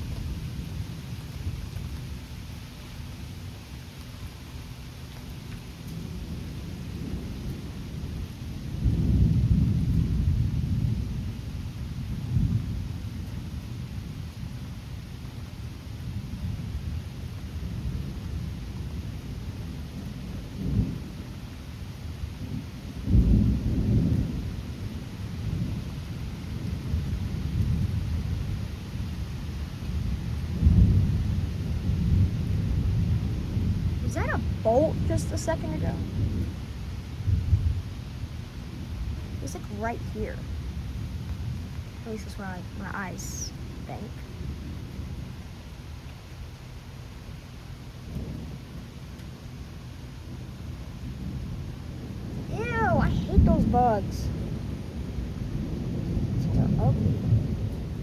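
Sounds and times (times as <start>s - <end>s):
rolling thunder: 0.0s - 2.2s, 5.8s - 14.7s, 16.0s - 21.5s, 22.1s - 58.0s
steady rain: 0.0s - 58.0s.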